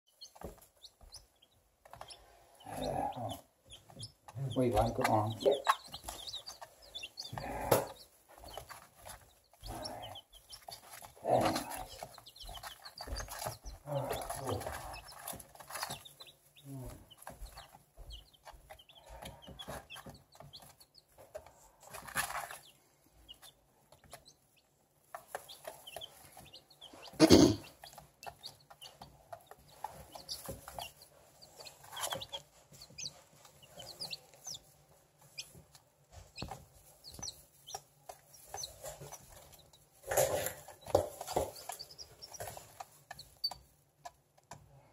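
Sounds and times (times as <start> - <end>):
chicks peeping softly: 0.1 - 44.9.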